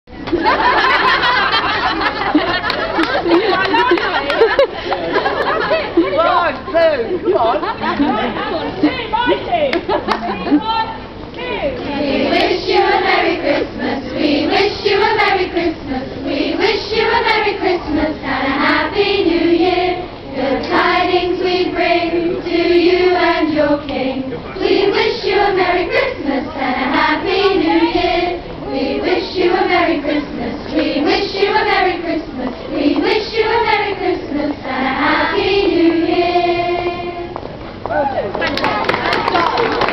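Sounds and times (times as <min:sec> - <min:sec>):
girls choir singing a carol: 0:00.3 - 0:06.3, 0:11.6 - 0:37.7.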